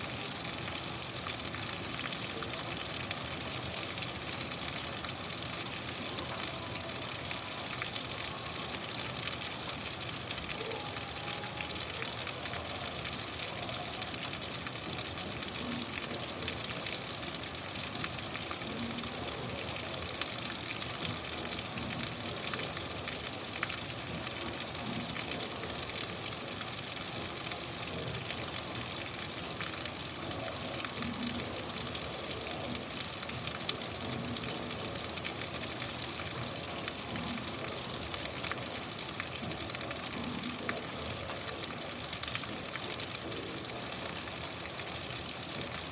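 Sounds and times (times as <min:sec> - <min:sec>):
steady rain falling: 0:00.0 - 0:45.9
raindrop ticks: 0:09.1 - 0:45.9.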